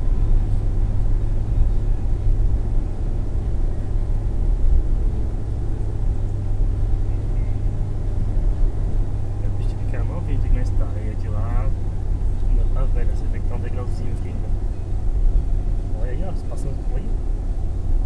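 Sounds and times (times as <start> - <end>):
car tyre and engine rumble: 0.0 - 18.0.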